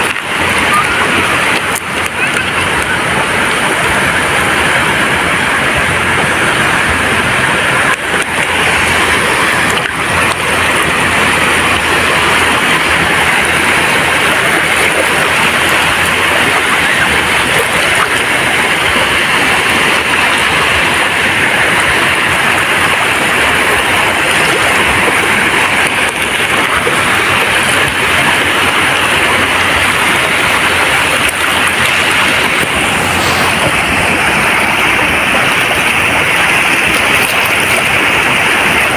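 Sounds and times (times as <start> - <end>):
sea surf washing onto beach: 0.0 - 38.9.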